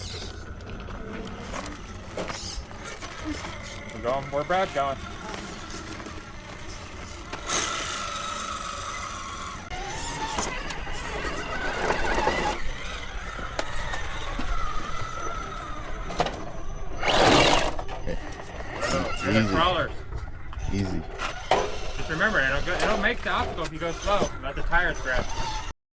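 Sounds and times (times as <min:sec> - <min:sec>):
electric motor whining: 0:00.0 - 0:25.7.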